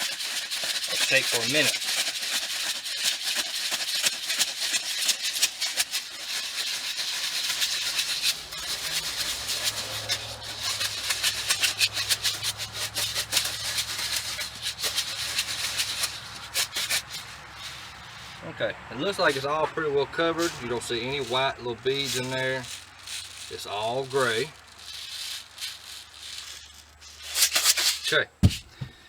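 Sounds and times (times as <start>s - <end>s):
beads rattling in shaken jug: 0.0s - 18.5s, 19.1s - 19.5s, 20.1s - 29.0s.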